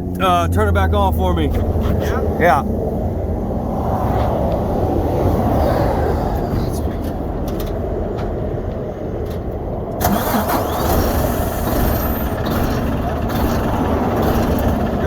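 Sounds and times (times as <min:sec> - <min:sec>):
diesel truck engine starting: 0:00.0 - 0:15.0.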